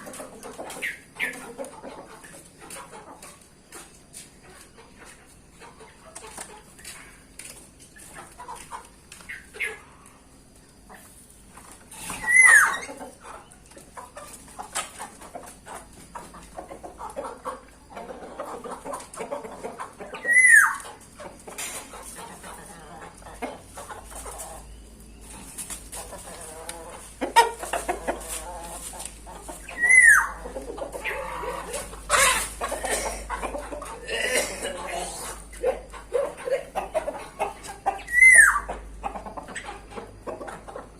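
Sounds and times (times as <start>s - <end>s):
birds chirping and chattering: 0.0s - 40.9s.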